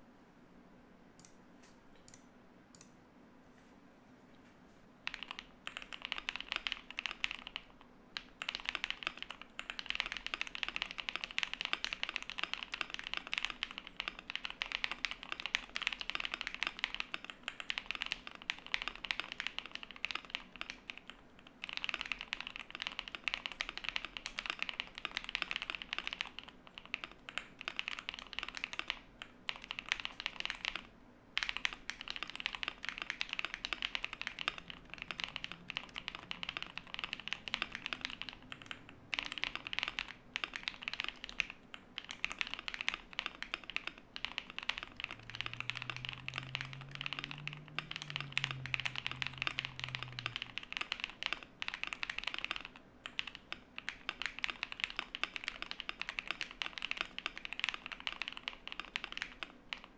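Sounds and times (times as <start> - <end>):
fast mechanical keyboard typing: 5.0 - 59.9.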